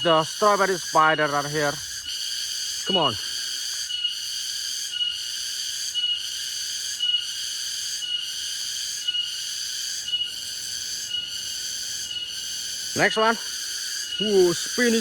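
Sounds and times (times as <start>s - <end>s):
cicada buzzing: 0.0s - 15.0s.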